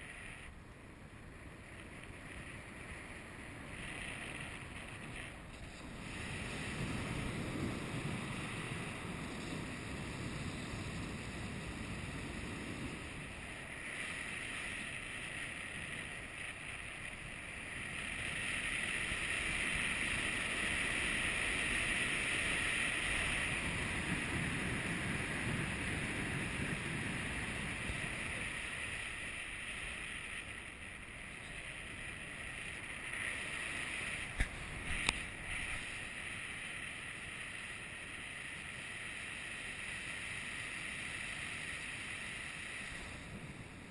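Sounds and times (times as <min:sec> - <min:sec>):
wind rushing over microphone: 0:01.3 - 0:16.4, 0:17.1 - 0:37.6.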